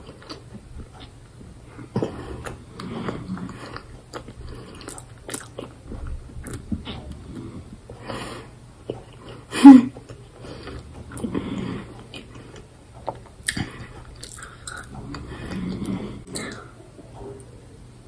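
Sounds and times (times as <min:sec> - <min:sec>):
person chewing with wet mouth sounds: 0:00.0 - 0:17.4.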